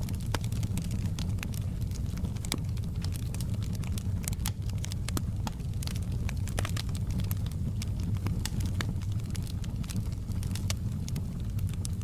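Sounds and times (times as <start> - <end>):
low rumble of flames: 0.0 - 12.0
wood fire crackling: 0.0 - 12.0.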